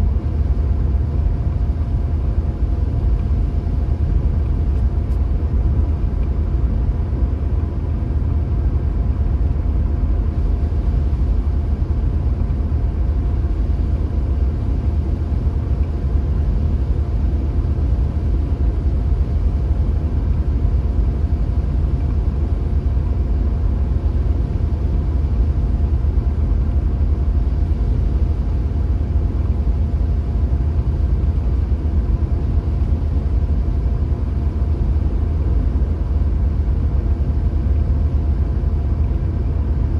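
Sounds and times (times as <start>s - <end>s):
car road and engine rumble: 0.0s - 39.9s
faint steady hum: 0.0s - 39.9s.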